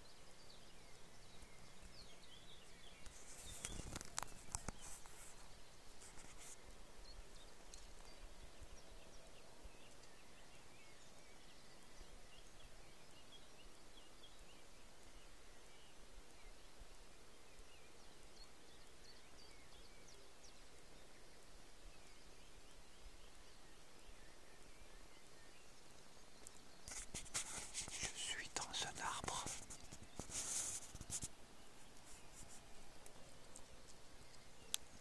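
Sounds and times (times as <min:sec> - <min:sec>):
faint distant bird chirps: 0:00.0 - 0:35.0.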